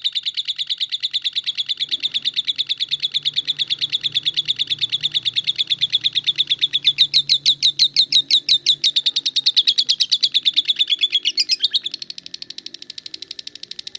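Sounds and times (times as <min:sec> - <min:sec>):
lovebird chattering: 0:00.0 - 0:13.9.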